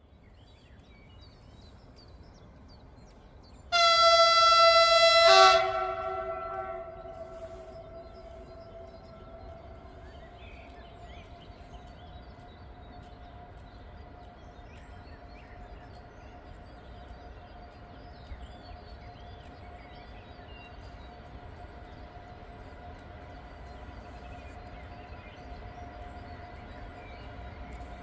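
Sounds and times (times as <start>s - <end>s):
electric locomotive whine and rumble: 0.0s - 28.0s
birds chirping: 5.4s - 28.0s.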